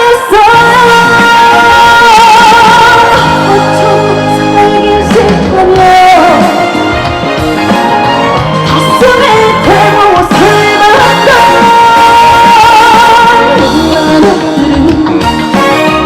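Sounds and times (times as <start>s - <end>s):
trot music with band: 0.0s - 16.0s.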